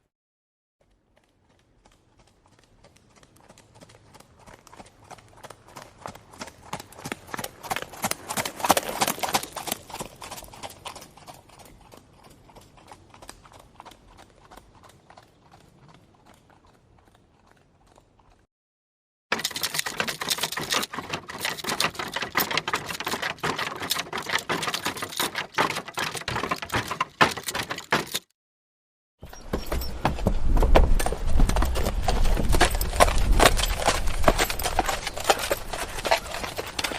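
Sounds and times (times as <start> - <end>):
galloping horse hoofbeats: 0.8 - 18.5, 19.3 - 28.2, 29.2 - 36.9.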